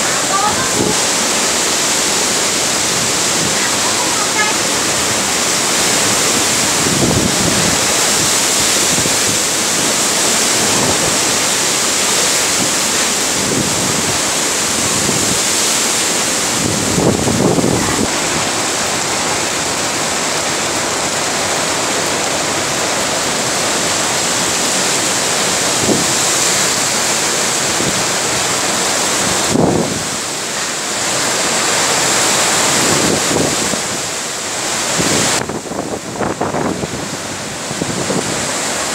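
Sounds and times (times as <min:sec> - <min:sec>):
wind buffeting the microphone: 0:00.0 - 0:30.4, 0:31.1 - 0:38.9
wind and heavy rain in trees: 0:00.0 - 0:38.9.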